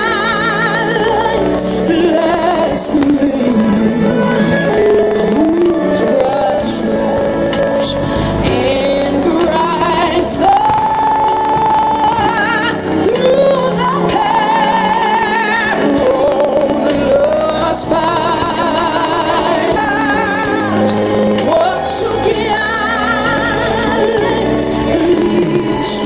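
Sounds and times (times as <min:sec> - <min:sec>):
instrumental backing: 0:00.0 - 0:26.0
singer with vibrato: 0:00.0 - 0:26.0.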